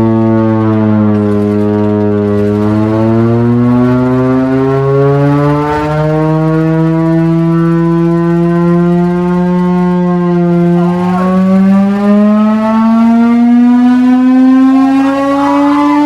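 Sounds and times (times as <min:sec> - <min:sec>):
air raid siren: 0:00.0 - 0:16.0.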